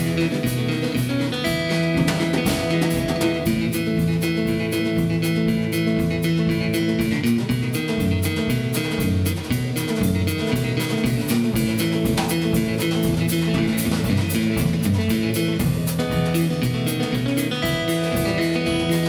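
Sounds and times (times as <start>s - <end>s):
drum kit beat: 0.0s - 19.0s
fingerpicked acoustic guitar: 0.0s - 19.0s.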